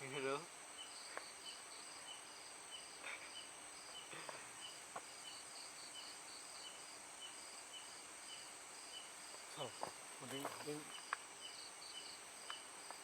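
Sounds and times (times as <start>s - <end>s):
crickets chirping: 0.0s - 13.0s
high insect drone: 0.0s - 13.0s.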